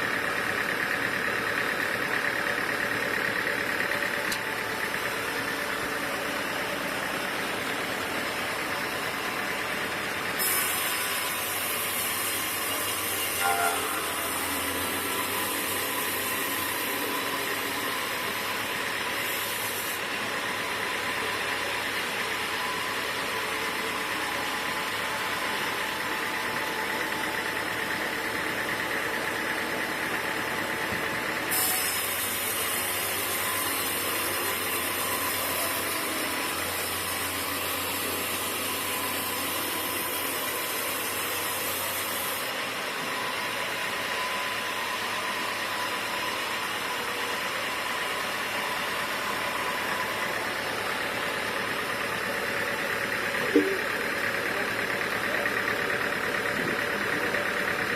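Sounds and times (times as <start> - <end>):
sawmill machinery humming: 0.0 - 57.9.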